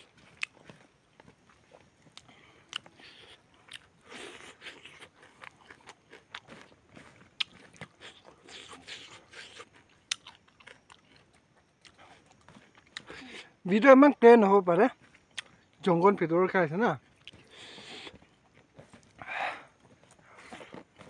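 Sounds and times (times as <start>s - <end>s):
person chewing and crunching food: 0.0s - 14.2s, 14.8s - 16.0s, 17.0s - 21.0s.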